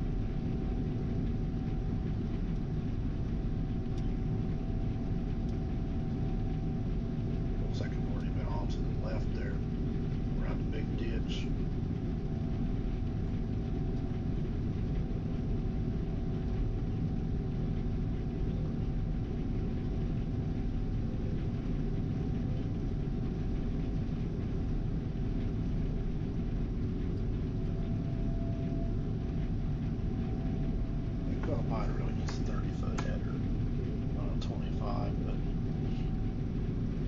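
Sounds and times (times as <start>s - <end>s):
combine harvester engine rumble: 0.0s - 37.0s
machinery hum: 0.0s - 37.0s.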